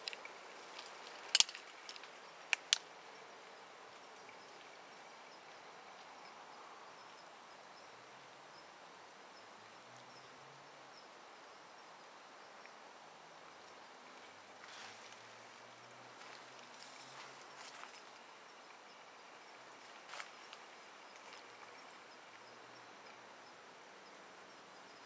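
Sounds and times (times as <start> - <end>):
faint steady outdoor hiss: 0.0 - 25.0.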